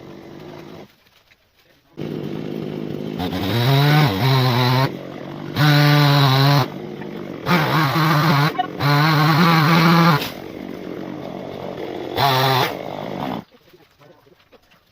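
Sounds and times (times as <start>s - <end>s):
chainsaw engine revving: 0.0s - 0.9s, 2.0s - 13.5s.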